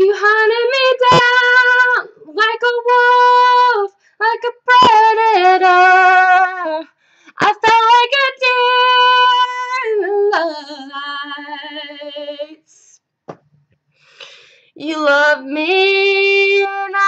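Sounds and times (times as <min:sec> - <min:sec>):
woman singing a cappella: 0:00.0 - 0:13.0, 0:14.7 - 0:17.0.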